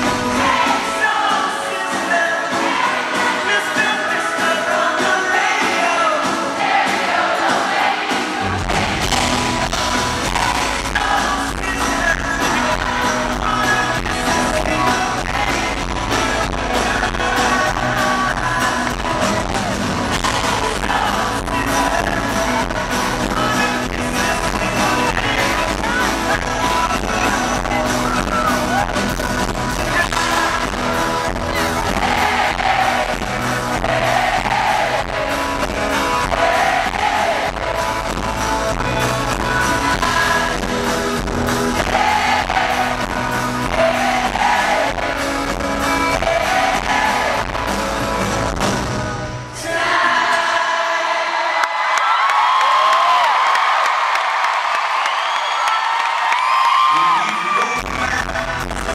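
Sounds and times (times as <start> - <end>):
man singing: 0.0 - 7.0, 8.5 - 51.4, 56.9 - 58.9
crowd cheering: 0.0 - 58.9
live pop-rock band: 0.0 - 58.9.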